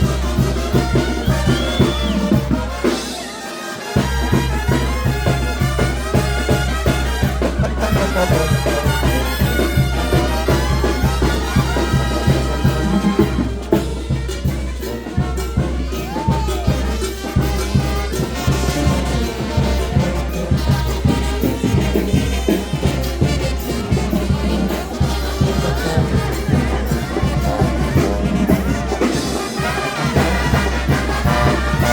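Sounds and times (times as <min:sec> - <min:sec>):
drum beat: 0:00.0 - 0:03.2, 0:04.0 - 0:31.9
brass band playing: 0:00.0 - 0:31.9
brass bass line: 0:00.0 - 0:31.9
trumpets and trombones melody: 0:00.0 - 0:31.9.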